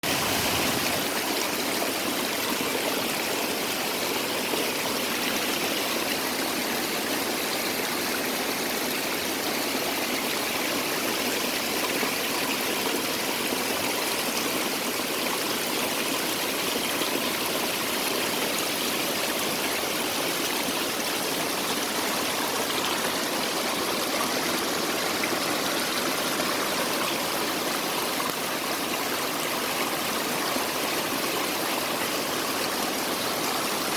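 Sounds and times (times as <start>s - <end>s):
small waterfall splashing: 0.0s - 33.9s.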